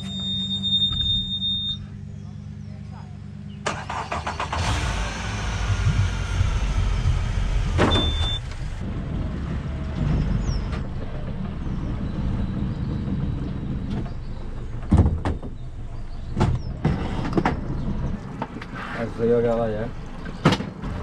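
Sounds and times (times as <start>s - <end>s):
boat engine low rumble: 0.0s - 21.0s.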